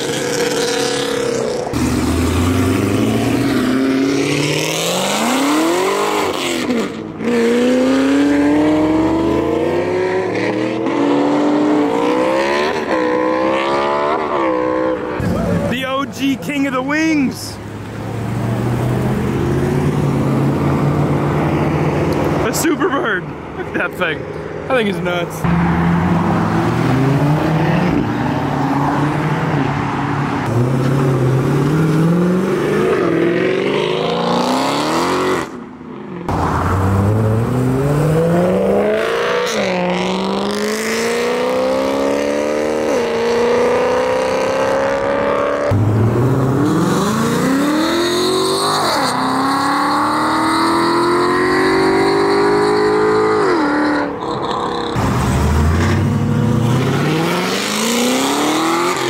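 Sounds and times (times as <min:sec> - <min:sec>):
cars accelerating hard: 0:00.0 - 0:22.8, 0:25.3 - 0:59.0.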